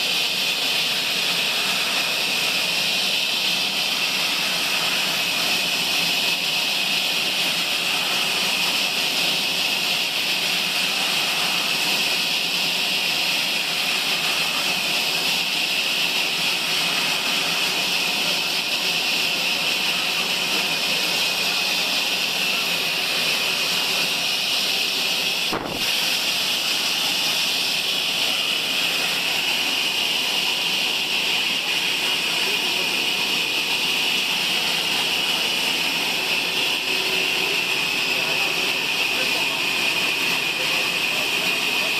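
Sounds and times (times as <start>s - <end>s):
sawmill saw hissing: 0.0s - 41.9s.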